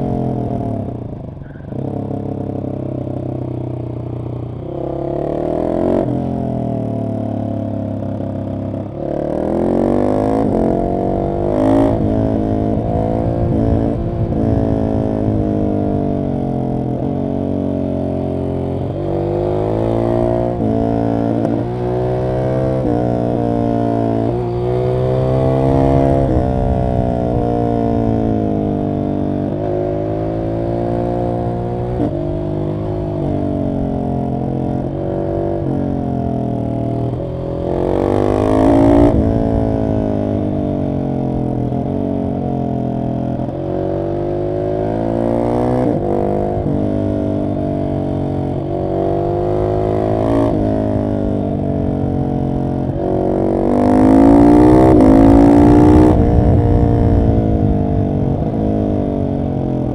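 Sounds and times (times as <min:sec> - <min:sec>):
motorcycle engine accelerating through gears: 0:00.0 - 0:59.9.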